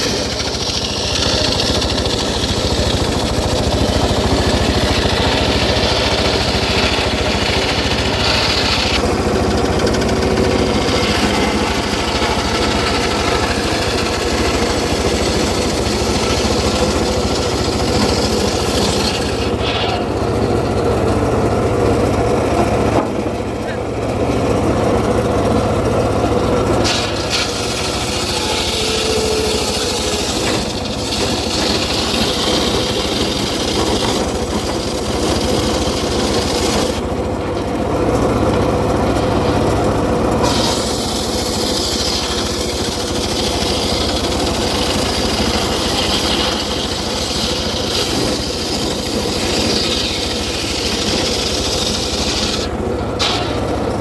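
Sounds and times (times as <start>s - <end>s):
engine-powered wood saw running: 0.0s - 54.0s.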